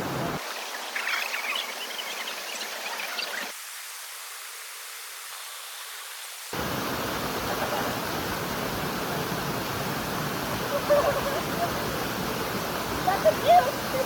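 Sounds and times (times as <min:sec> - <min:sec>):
small waterfall rushing: 0:00.0 - 0:14.0.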